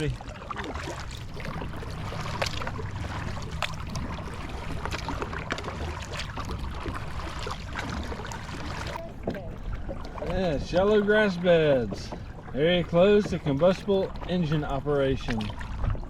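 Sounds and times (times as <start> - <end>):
low rumble: 0.0 - 16.0
paddle splashes and drips: 0.0 - 16.0.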